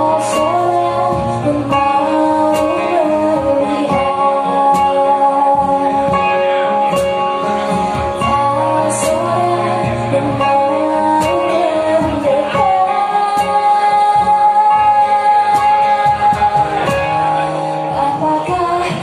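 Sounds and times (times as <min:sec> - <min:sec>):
woman singing: 0:00.0 - 0:07.1, 0:08.0 - 0:19.0
acoustic guitars strumming: 0:00.0 - 0:19.0.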